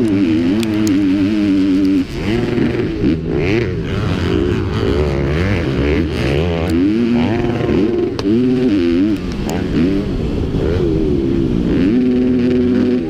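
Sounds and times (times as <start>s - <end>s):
motocross engine revving hard: 0.0s - 13.0s
wind noise: 0.0s - 13.0s.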